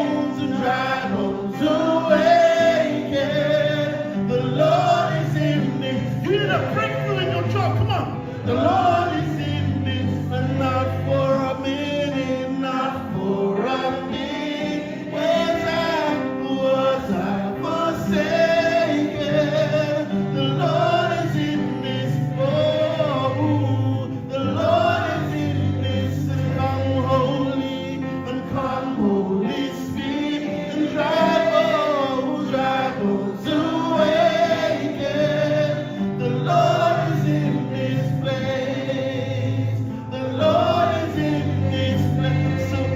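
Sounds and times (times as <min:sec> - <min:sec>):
choir and congregation singing: 0:00.0 - 0:42.9.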